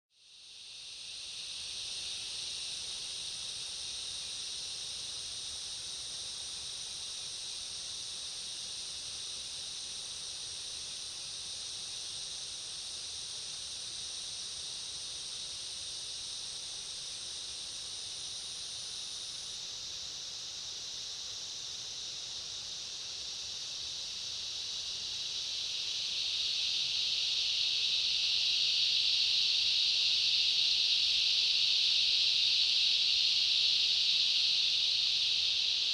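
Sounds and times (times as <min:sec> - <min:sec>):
insect chorus shrill drone: 0:00.2 - 0:35.9
thin high insect voice: 0:00.3 - 0:35.9.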